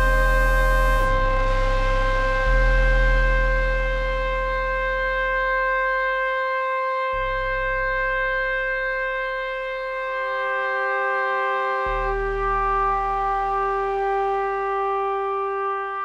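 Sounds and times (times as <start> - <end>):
deep bass note: 0.0 - 10.6, 11.8 - 15.5
synthesizer drone: 0.0 - 16.0.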